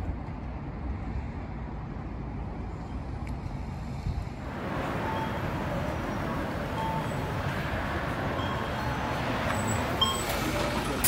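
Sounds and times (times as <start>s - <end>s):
hissy street noise: 0.0s - 11.0s
traffic rumble: 0.0s - 11.0s.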